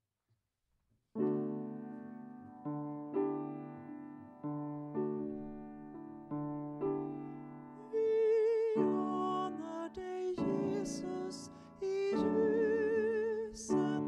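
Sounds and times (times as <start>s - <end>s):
piano chords: 1.2s - 14.0s.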